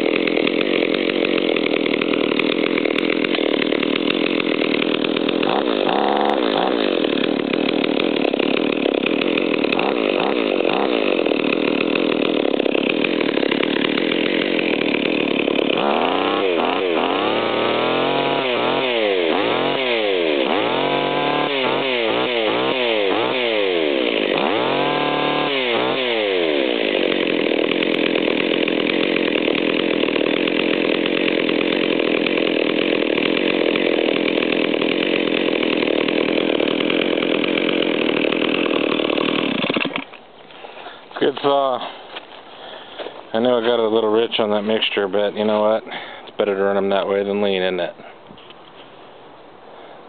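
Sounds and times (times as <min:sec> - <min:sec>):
chainsaw engine revving: 0:00.0 - 0:40.2, 0:41.1 - 0:48.5.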